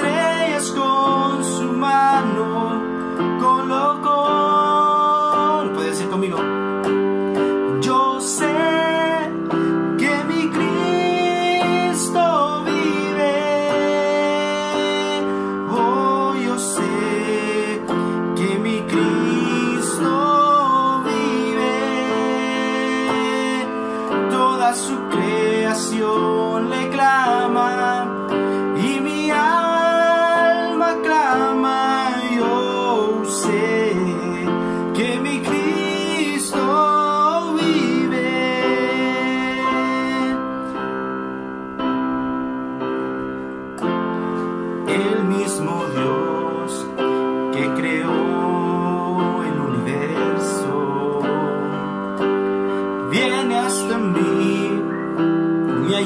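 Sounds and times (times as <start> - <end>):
man singing worship song: 0.0 - 40.8, 44.7 - 56.0
instrumental backing track: 0.0 - 56.0.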